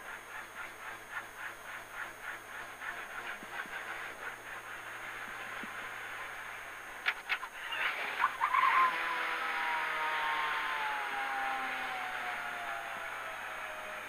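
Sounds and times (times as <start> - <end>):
car engine at low revs: 0.0 - 14.0
rhythmic engine chatter: 0.0 - 14.0.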